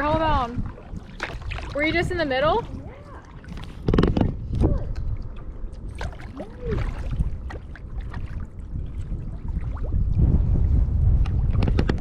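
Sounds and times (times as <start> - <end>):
wind rumbling on microphone: 0.0 - 12.0
kayak paddle splashing: 0.1 - 10.2.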